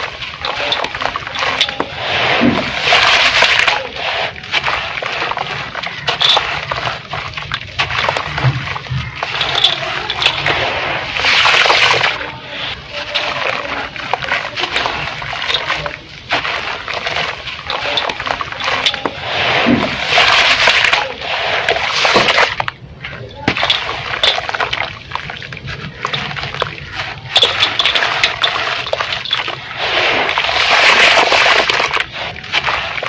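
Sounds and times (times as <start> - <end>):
sand-cement crumbling in water: 0.0 - 33.0.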